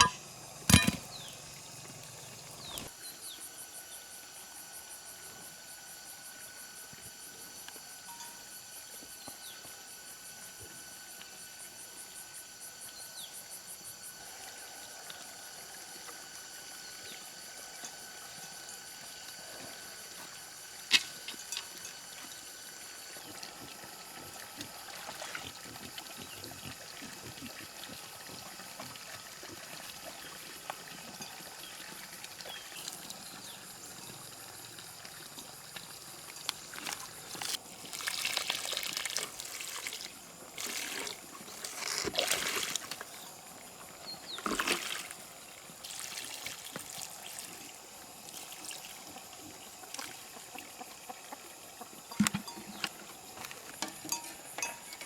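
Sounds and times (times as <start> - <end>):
insects chirping and trilling: 0.0 - 55.0.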